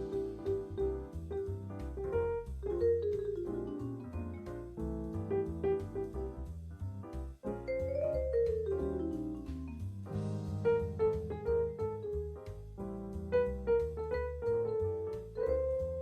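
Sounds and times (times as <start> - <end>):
bass backing: 0.0 - 16.0
vibraphone-like jazz melody: 0.0 - 16.0.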